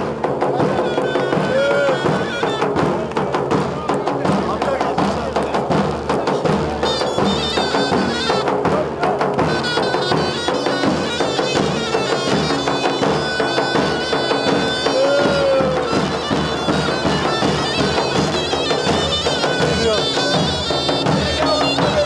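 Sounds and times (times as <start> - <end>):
steady drum beat: 0.0 - 22.0
shrill reed pipe melody: 0.5 - 2.9, 6.3 - 22.0.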